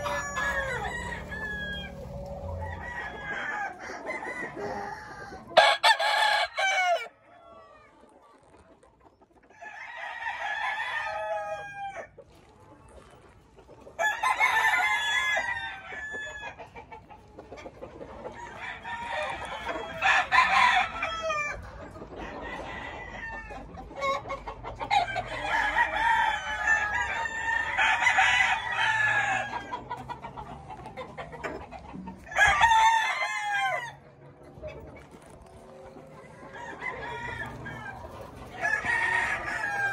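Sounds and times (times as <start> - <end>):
roosters crowing: 0.0 - 7.9, 9.5 - 12.2, 13.9 - 17.0, 18.1 - 34.1, 35.4 - 39.9.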